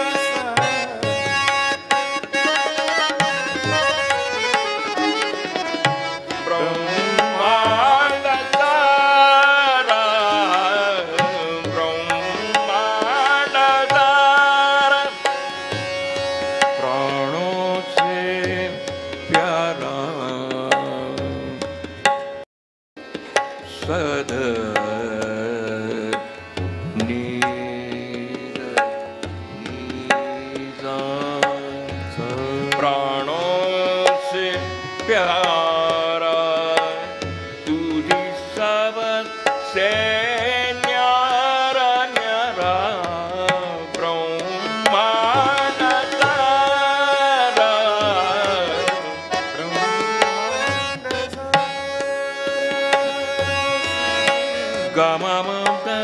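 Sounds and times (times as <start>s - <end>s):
man singing long notes: 0.0s - 21.7s, 23.7s - 56.0s
tanpura drone: 0.0s - 21.9s, 23.0s - 55.9s
harmonium: 0.0s - 22.4s, 23.0s - 56.0s
tabla rhythm: 0.0s - 22.4s, 23.0s - 56.0s.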